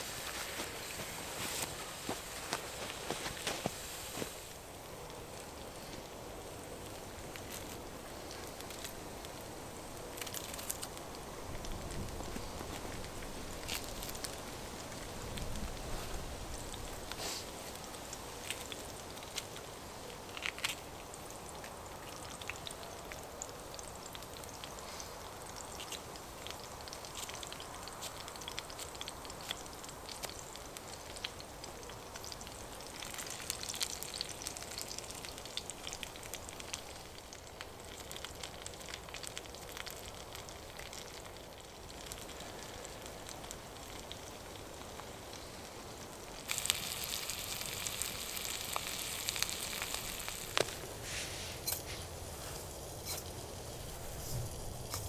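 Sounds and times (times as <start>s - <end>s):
burning log crackling and popping: 0.0s - 55.0s
food frying sizzle: 0.0s - 55.0s.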